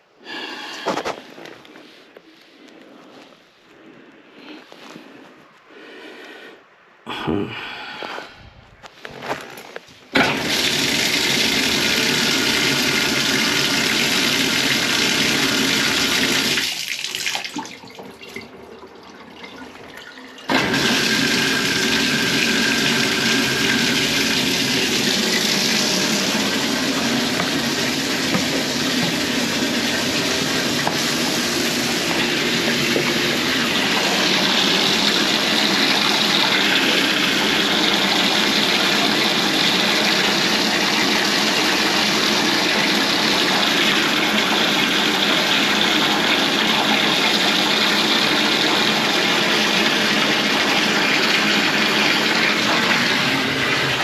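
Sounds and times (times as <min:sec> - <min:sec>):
toilet flush water rushing: 0:10.1 - 0:54.0.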